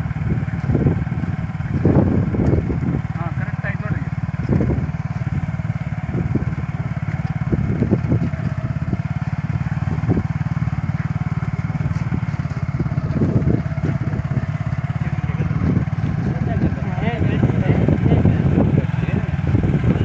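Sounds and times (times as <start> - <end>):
motorcycle engine under load: 0.0 - 20.0.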